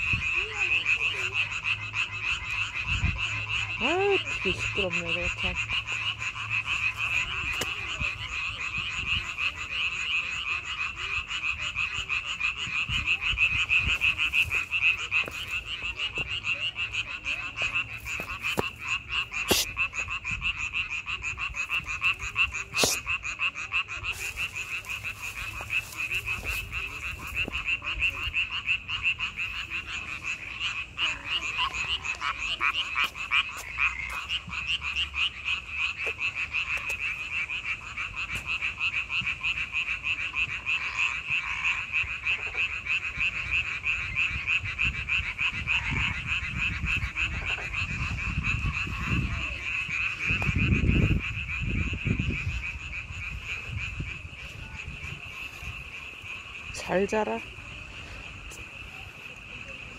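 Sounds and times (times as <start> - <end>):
frogs croaking in chorus: 0.0 - 59.9.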